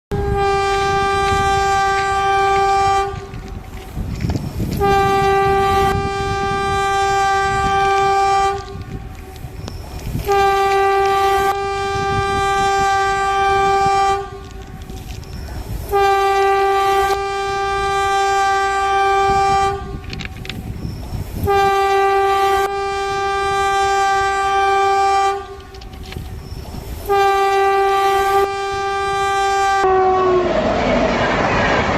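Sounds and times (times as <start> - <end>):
train horn blasts: 0.1 - 3.9, 4.6 - 20.3, 21.1 - 26.1, 27.0 - 31.8
moving train rumble and clatter: 0.1 - 31.9.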